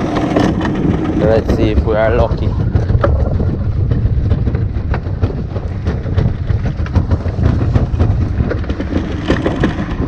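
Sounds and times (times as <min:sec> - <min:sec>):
boat engine rumbling: 0:00.0 - 0:10.0
wind buffeting microphone: 0:00.0 - 0:10.0.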